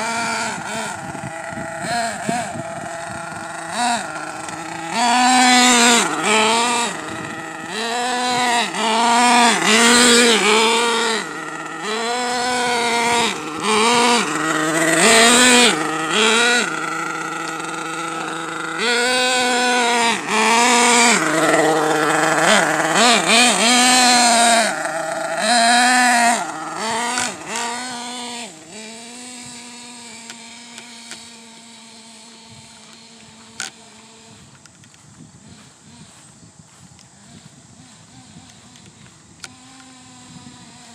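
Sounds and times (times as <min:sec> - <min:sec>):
radio-controlled truck nitro engine revving: 0:00.0 - 0:40.9.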